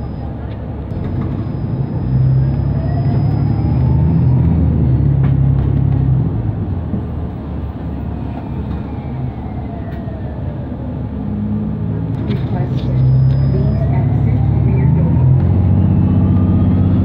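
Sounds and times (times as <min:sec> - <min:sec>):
bus engine hum: 0:00.0 - 0:17.0.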